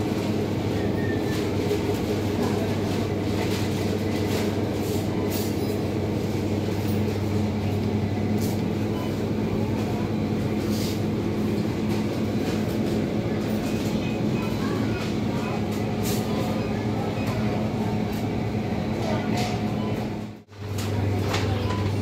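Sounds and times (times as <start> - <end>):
refrigeration machine hum: 0.0 - 22.0.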